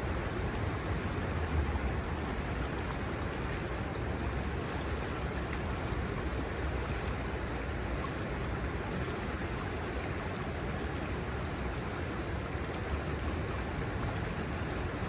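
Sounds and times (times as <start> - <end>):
low water rumble: 0.0 - 15.0
river water rushing: 0.0 - 15.0.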